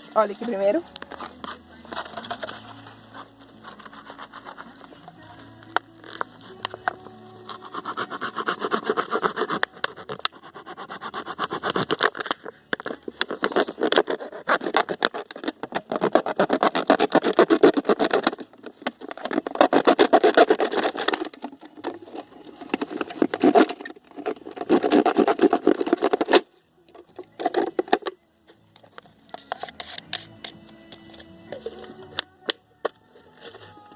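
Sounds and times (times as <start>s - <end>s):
plastic bottle crackling and scraping: 0.0s - 33.9s.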